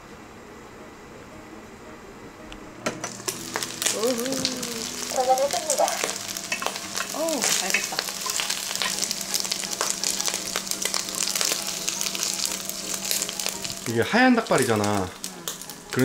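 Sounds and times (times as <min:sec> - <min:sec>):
food sizzling and crackling in pan: 0:02.9 - 0:16.0.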